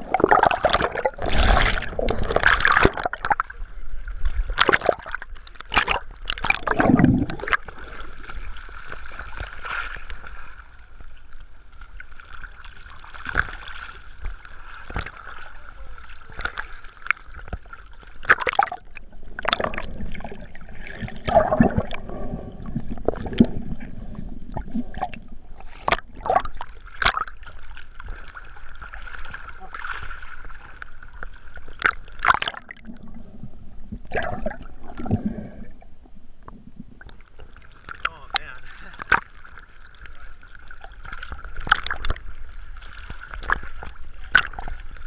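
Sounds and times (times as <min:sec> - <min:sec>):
sea water sloshing and splashing: 0:00.0 - 0:45.0.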